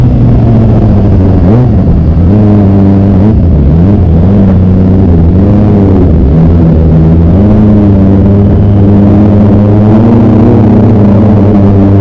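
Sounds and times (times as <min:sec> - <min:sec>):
engine throttle blips: 0:00.0 - 0:12.0
motorcycle engine running: 0:00.0 - 0:12.0.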